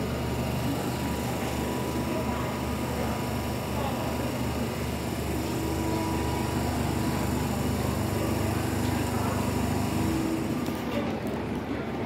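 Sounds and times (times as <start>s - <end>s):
train equipment humming: 0.0s - 11.0s.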